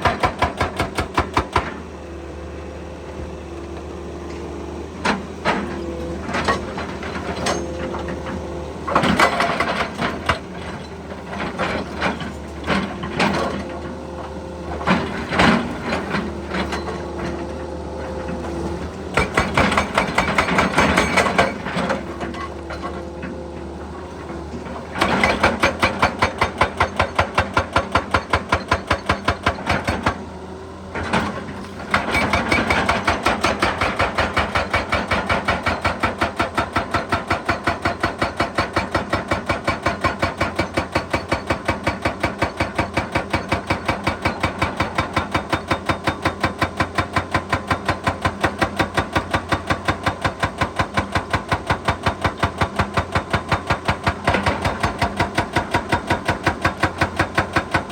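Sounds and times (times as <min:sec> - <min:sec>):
hydraulic breaker pounding rock: 0:00.0 - 0:01.9, 0:05.0 - 0:57.9.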